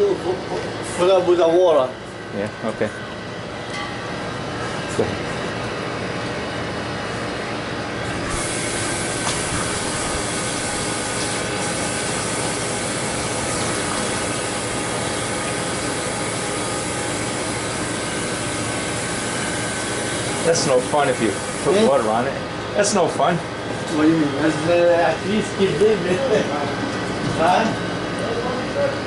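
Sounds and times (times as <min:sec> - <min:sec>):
refrigeration unit humming: 0:00.0 - 0:29.0.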